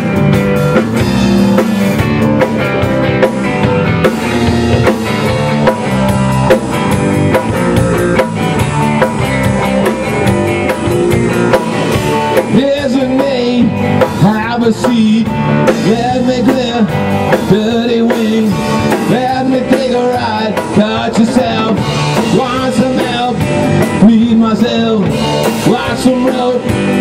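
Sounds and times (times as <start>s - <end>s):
bass guitar: 0.0s - 27.0s
drum kit beat: 0.0s - 27.0s
electric guitar: 0.0s - 27.0s.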